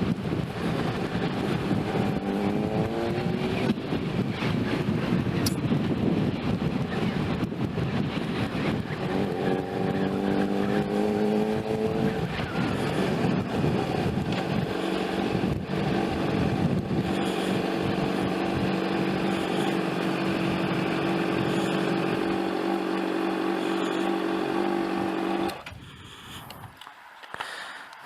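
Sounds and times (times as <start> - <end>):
motorcycle engine running: 0.0 - 25.7.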